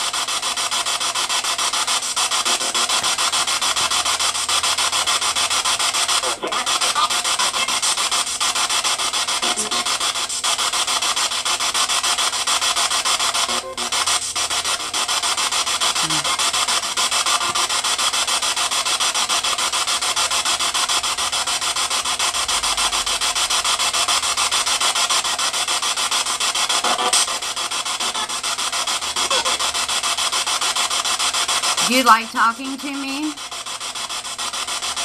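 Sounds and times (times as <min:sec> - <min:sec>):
radio static chopped by scanning: 0:00.0 - 0:35.0.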